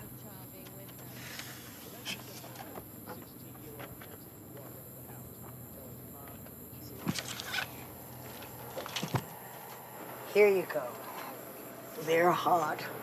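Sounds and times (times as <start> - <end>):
insects chirping: 0.0 - 13.0
steady low hum: 0.0 - 13.0.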